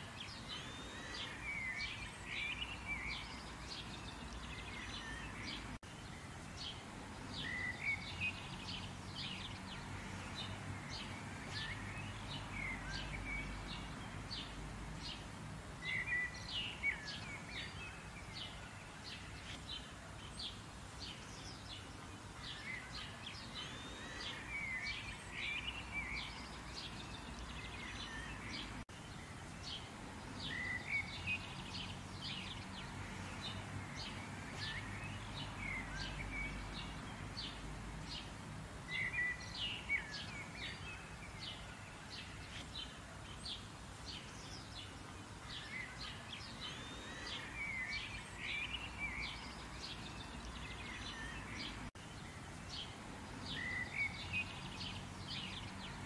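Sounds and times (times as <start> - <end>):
light rain hiss: 0.0 - 56.0
songbirds chirping and warbling: 0.0 - 56.0.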